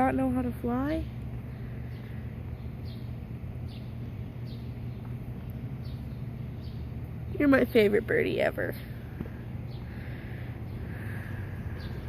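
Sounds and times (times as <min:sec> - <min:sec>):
steady low hum: 0:00.0 - 0:12.0
fledgling bird chirping: 0:01.3 - 0:12.0.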